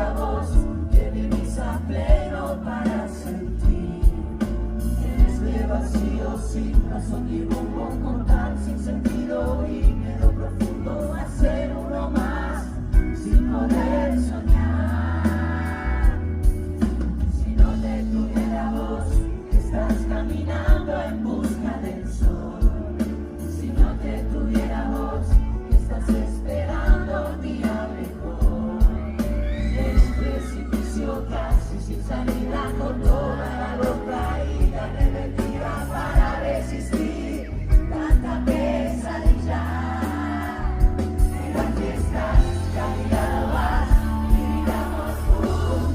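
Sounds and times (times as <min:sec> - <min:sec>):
live pop-rock band: 0:00.0 - 0:45.9.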